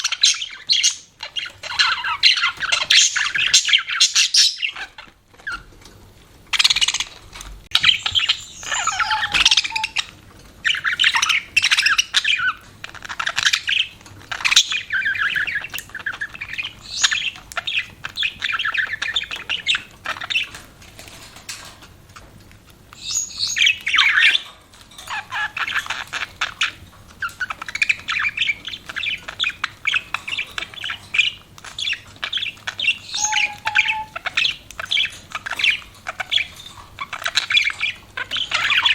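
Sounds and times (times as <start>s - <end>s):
budgerigars chattering and warbling: 0.0s - 5.7s, 6.5s - 21.7s, 23.0s - 38.9s.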